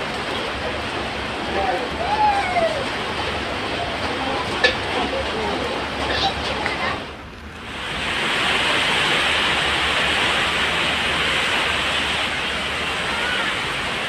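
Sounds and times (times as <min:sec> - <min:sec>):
heavy rain on concrete: 0:00.0 - 0:14.0
rain splashing into water: 0:00.0 - 0:14.0.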